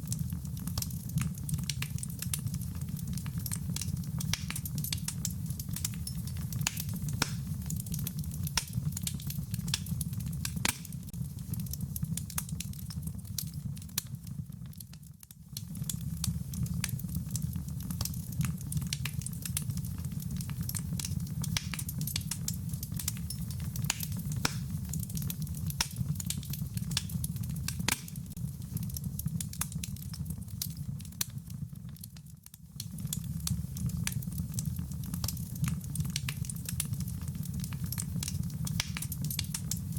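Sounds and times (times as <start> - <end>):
rain pattering: 0.0 - 15.0, 15.6 - 32.2, 32.8 - 39.9
wood fire crackling: 0.0 - 39.9.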